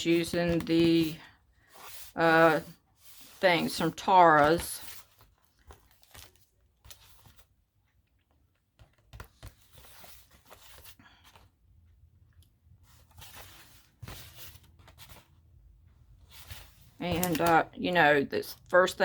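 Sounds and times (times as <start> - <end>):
paper rustling and crackling: 0.0 - 7.6, 8.7 - 11.6, 12.8 - 15.5, 16.1 - 19.0.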